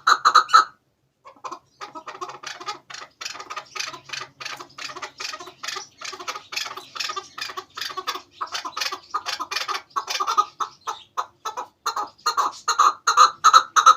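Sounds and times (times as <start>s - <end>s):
partridge clucking call: 0.0s - 13.9s.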